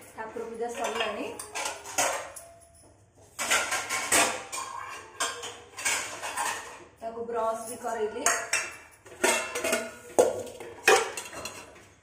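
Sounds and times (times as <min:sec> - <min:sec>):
steel vessels clanking on metal rack: 0:00.6 - 0:02.8, 0:03.4 - 0:06.9, 0:07.9 - 0:11.9.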